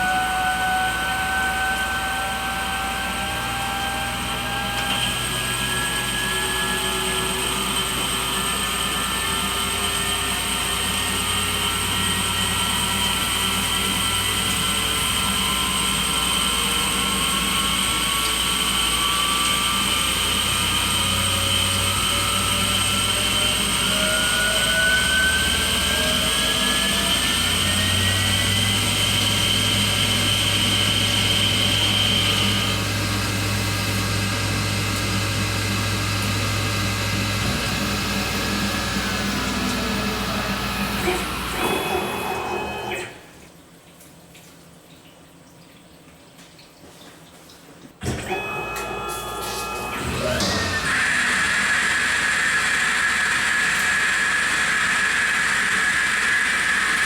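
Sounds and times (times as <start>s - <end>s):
lathe spindle whine: 0.0s - 43.4s, 48.0s - 57.0s
rising whine tones: 0.0s - 43.4s, 48.1s - 57.0s.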